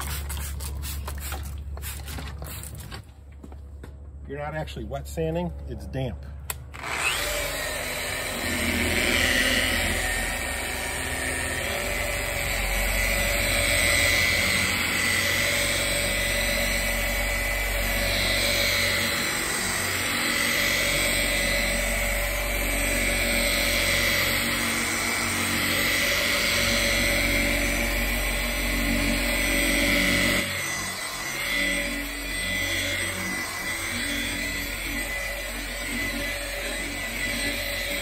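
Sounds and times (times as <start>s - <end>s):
orbital polisher whining: 6.8s - 38.0s.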